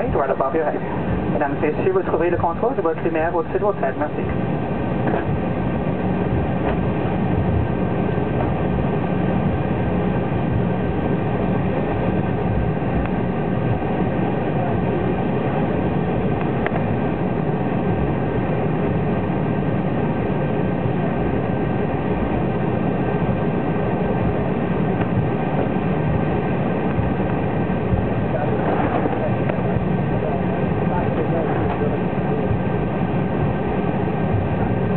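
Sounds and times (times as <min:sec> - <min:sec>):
faint steady whine: 0:00.0 - 0:34.9
jet engines rumbling while taxiing: 0:00.0 - 0:34.9.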